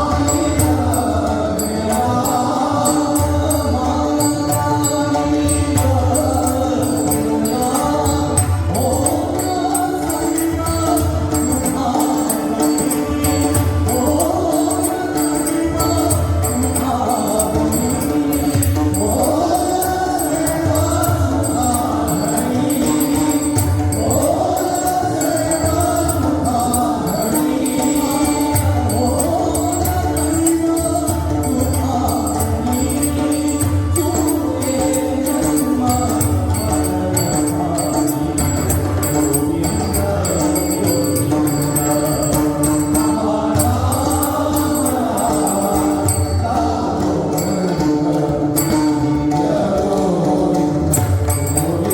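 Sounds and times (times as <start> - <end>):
devotional singing: 0.0 - 51.9
hand drums beating: 0.0 - 51.9
small hand cymbals jingling: 0.0 - 51.9.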